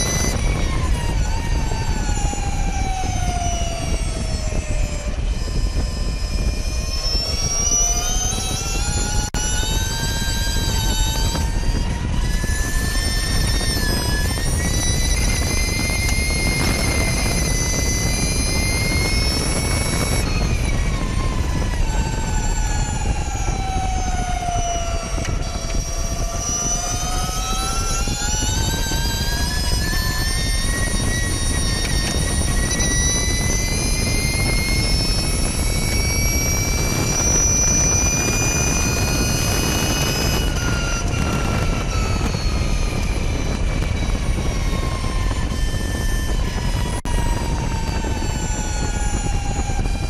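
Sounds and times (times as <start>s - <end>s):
electric motorcycle whine: 0.0s - 50.0s
wind rushing: 0.0s - 50.0s.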